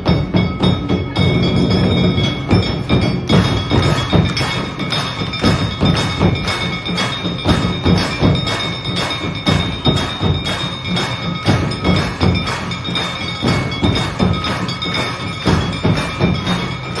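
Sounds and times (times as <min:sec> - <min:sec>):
drum beat: 0:00.0 - 0:17.0
temple bells ringing: 0:00.0 - 0:17.0.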